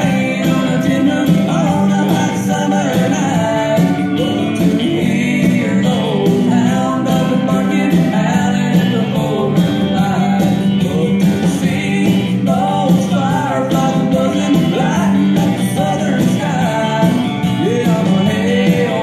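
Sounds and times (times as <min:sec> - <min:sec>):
instrumental backing: 0:00.0 - 0:19.0
person singing: 0:00.0 - 0:19.0.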